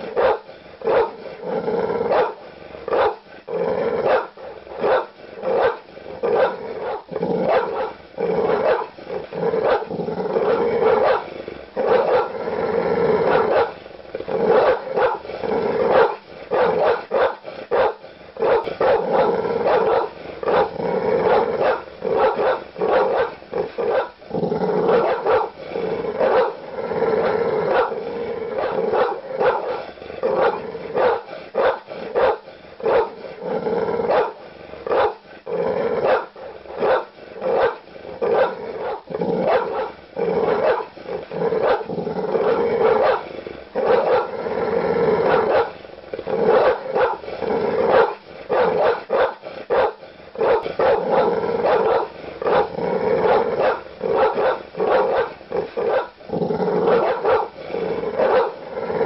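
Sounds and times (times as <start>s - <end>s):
dogs growling: 0.0s - 59.0s
large dogs barking aggressively: 0.0s - 59.0s.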